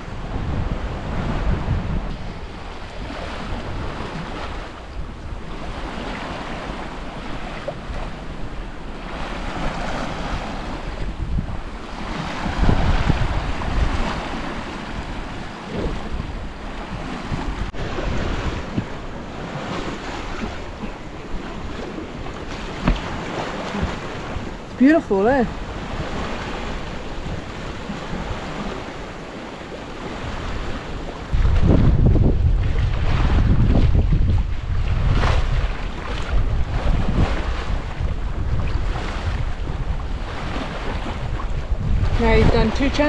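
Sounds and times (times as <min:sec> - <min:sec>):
water splashing along boat hull: 0:00.0 - 0:43.0
wind buffeting microphone: 0:00.0 - 0:43.0.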